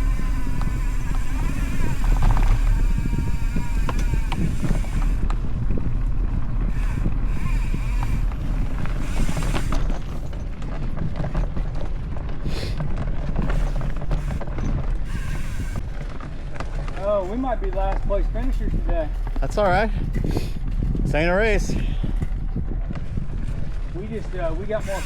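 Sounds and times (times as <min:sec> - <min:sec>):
bike clicks and rattles: 0:00.0 - 0:25.0
wind on microphone: 0:00.0 - 0:25.0.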